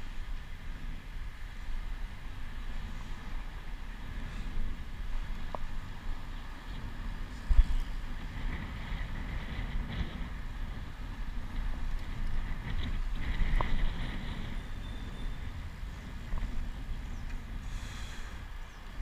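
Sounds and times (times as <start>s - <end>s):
bicycle rolling on pavement: 0.0s - 19.0s
wind buffeting microphone: 0.0s - 19.0s.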